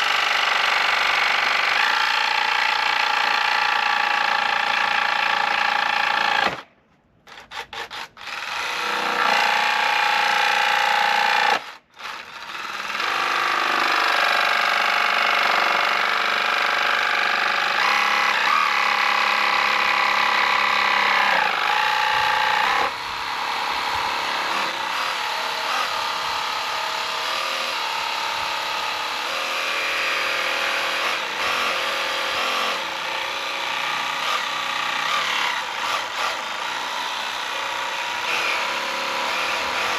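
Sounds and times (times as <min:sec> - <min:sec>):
power tool motor whining: 0:07.3 - 0:39.9.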